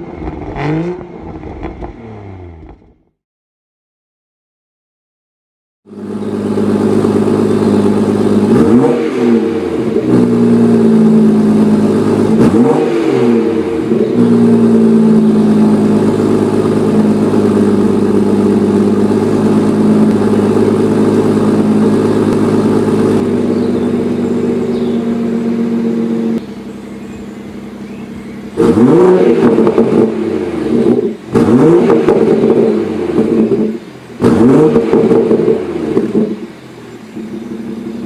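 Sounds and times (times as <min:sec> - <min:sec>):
car engine revving and idling: 0:00.0 - 0:03.2, 0:05.9 - 0:38.0.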